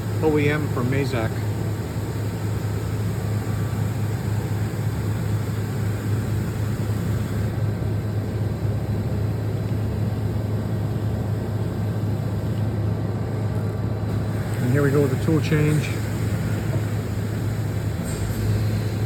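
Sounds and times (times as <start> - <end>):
machining center running: 0.0 - 19.0.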